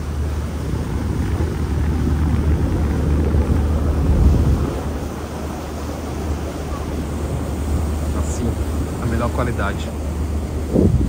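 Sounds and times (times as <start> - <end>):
boat engine: 0.0 - 11.0
water noise: 0.0 - 11.0
wind buffeting microphone: 0.0 - 11.0.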